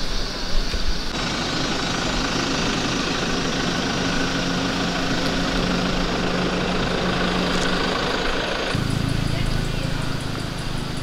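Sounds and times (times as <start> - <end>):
car engine running: 0.9 - 11.0.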